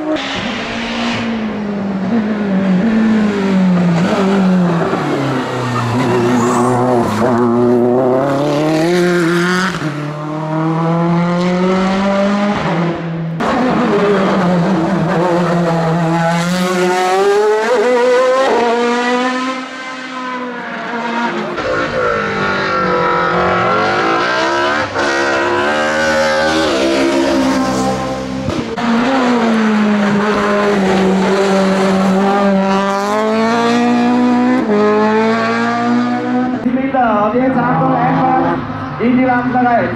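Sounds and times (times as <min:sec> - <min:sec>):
race car engines at full throttle: 0:00.0 - 0:39.9.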